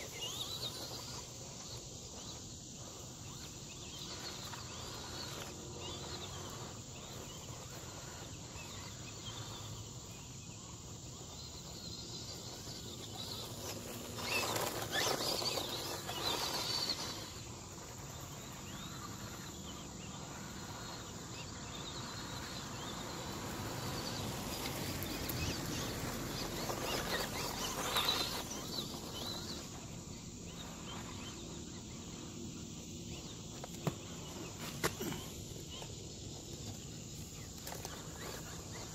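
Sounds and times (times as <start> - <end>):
insects and crickets chirping: 0.0 - 38.9.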